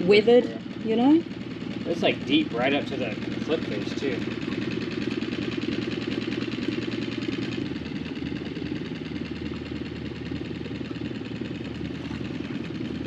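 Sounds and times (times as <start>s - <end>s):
small boat motor chugging: 0.0s - 13.0s.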